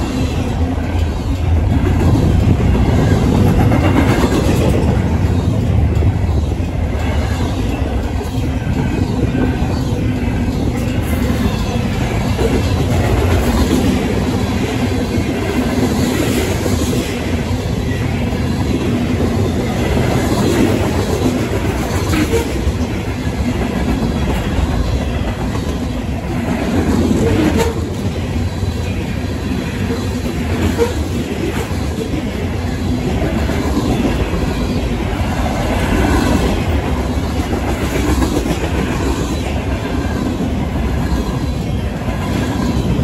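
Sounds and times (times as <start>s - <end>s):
steel wheels rolling on rail: 0.0s - 43.0s.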